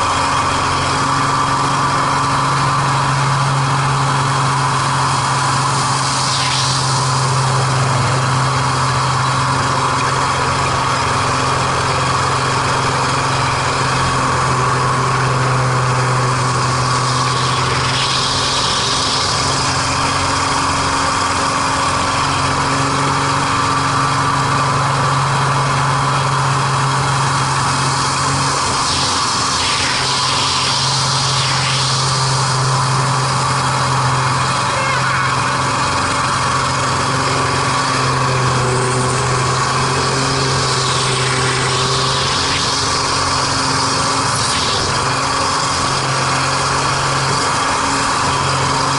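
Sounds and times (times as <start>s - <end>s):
rushing air: 0.0s - 24.1s, 26.1s - 48.9s
propeller plane engine drone: 0.0s - 48.9s.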